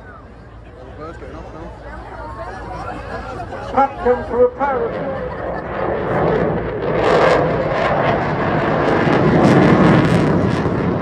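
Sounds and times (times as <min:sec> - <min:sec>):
jet engines flying past: 0:00.0 - 0:11.0.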